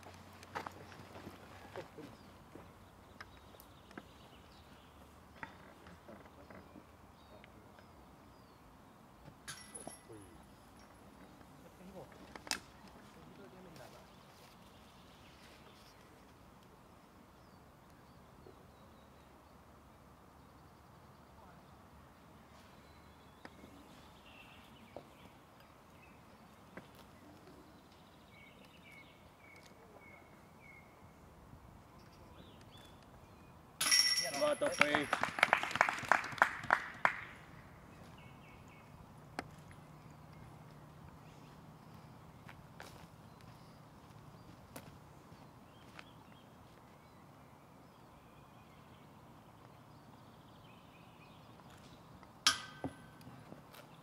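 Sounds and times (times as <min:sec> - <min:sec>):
faint outdoor ambience: 0:00.0 - 0:54.0.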